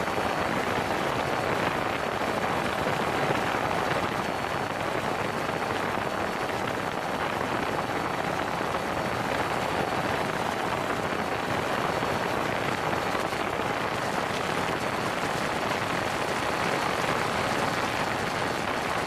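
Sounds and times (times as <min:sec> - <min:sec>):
propeller wash rushing: 0:00.0 - 0:19.0.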